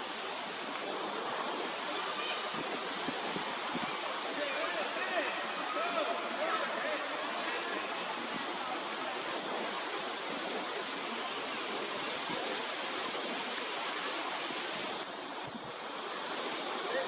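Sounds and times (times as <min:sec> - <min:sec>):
steady rushing outdoor noise: 0:00.0 - 0:17.0.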